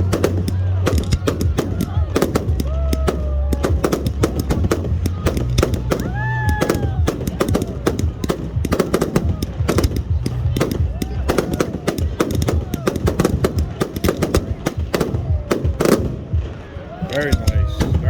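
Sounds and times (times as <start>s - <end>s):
firework cracks and bangs: 0.0s - 18.0s.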